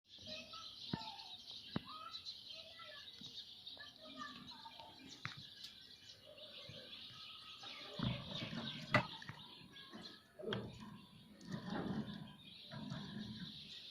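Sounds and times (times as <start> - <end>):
birds chirping: 0.1 - 13.9.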